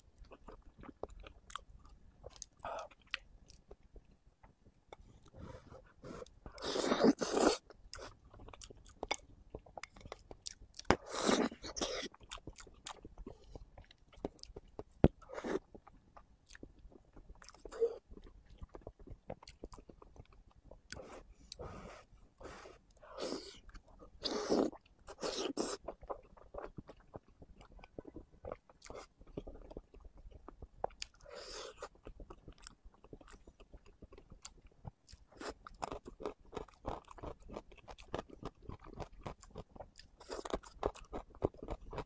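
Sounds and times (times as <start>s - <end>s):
close-miked wet chewing: 0.0s - 42.0s.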